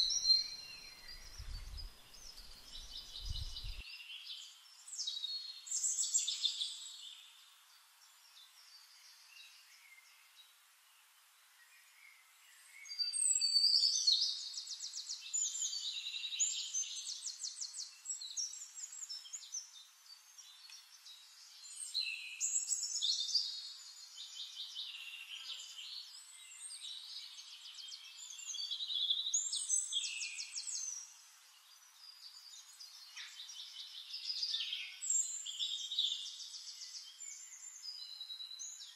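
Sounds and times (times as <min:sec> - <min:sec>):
songbirds trilling and chirping: 0:00.0 - 0:10.2, 0:12.1 - 0:38.9.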